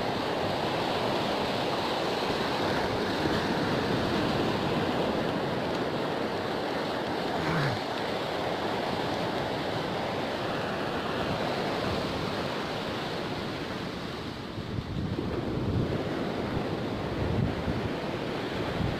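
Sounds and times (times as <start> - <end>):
ocean waves breaking on beach: 0.0 - 18.9.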